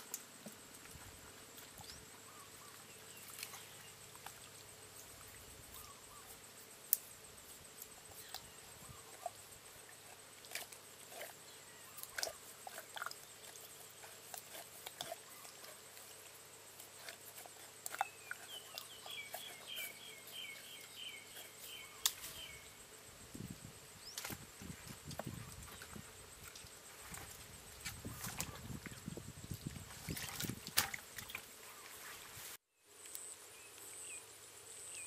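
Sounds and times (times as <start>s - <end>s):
high insect tone: 0.0s - 35.0s.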